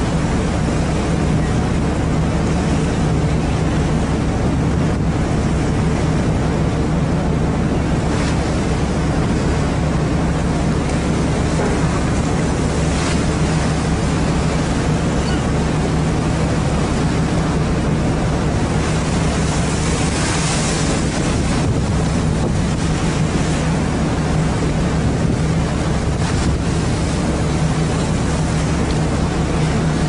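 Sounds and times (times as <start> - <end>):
boat engine droning: 0.0 - 30.0
wind and water rushing: 0.0 - 30.0
wind gusts on microphone: 0.0 - 30.0.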